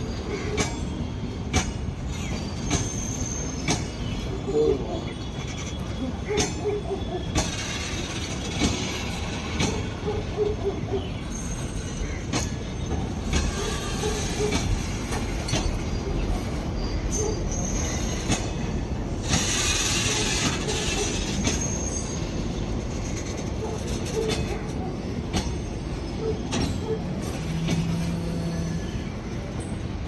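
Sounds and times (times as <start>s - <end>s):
wheels clacking over rail joints: 0.0s - 4.5s, 5.3s - 30.0s
freight train rumbling past: 0.0s - 30.0s.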